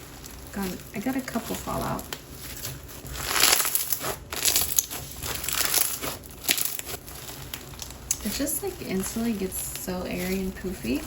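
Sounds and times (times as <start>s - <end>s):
slime crackling and popping: 0.0s - 11.0s.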